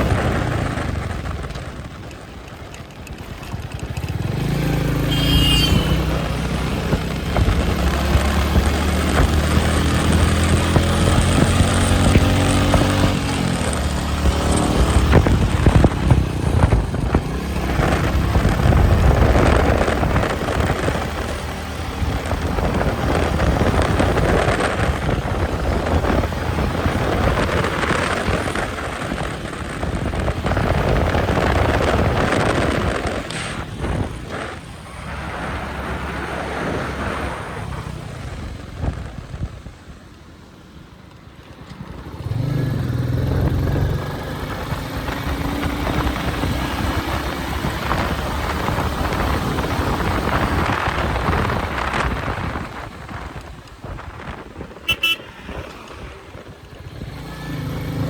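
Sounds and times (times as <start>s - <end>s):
steady rushing noise: 0.0s - 40.6s, 41.8s - 58.0s
motorcycle engine and exhaust: 0.0s - 58.0s.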